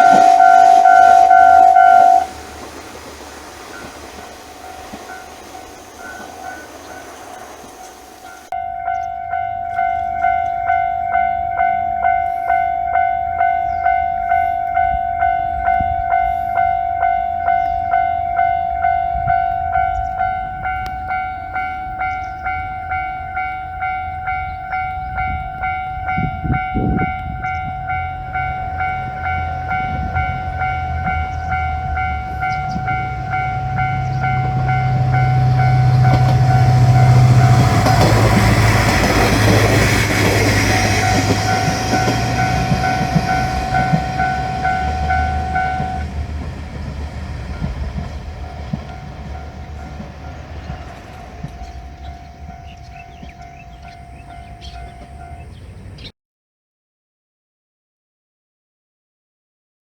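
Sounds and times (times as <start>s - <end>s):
level-crossing warning bell ringing: 0.0s - 2.9s, 3.7s - 55.9s
diesel train engine drone: 0.0s - 56.0s
train wheel noise: 0.0s - 56.0s.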